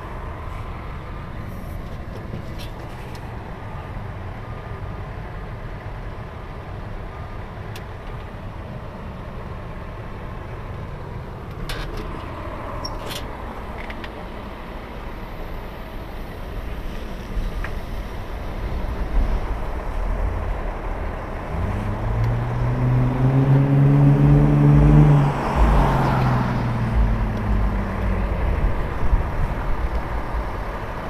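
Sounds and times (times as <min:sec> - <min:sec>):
low rumble of vehicles: 0:00.0 - 0:31.0.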